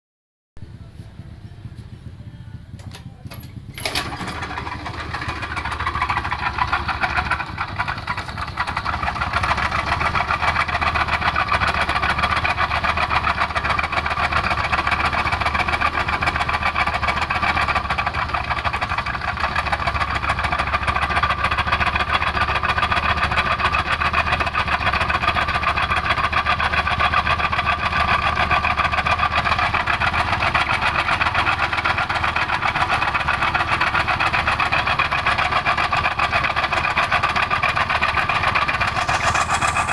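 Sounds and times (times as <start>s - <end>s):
scooter engine idling roughly: 0.6s - 39.9s.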